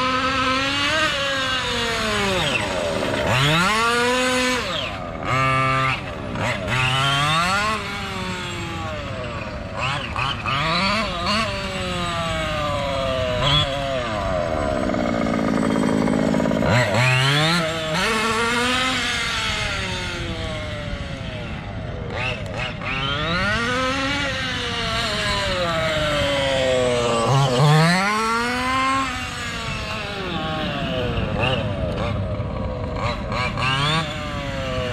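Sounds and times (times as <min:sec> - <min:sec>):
small two-stroke engine revving: 0:00.0 - 0:34.9.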